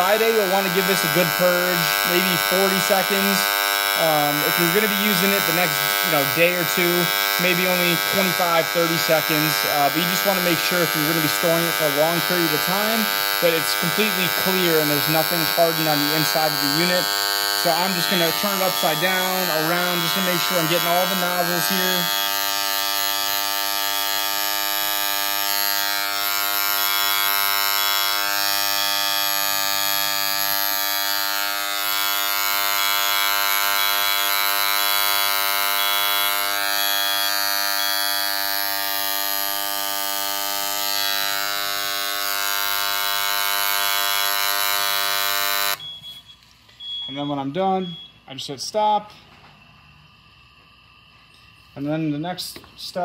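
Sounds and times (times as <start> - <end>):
handheld printer buzzing: 0.0 - 45.8.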